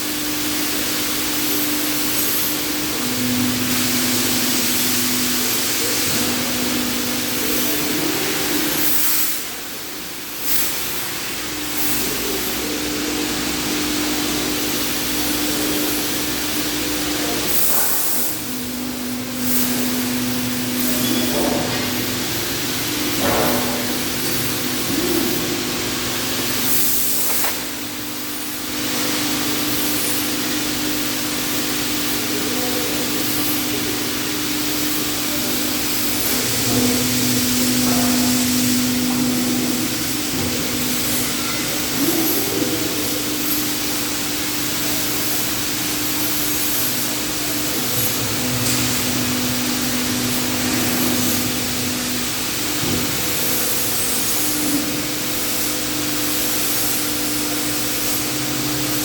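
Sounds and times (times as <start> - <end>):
machine hum: 0.0 - 59.0
spraying hiss: 0.0 - 59.0.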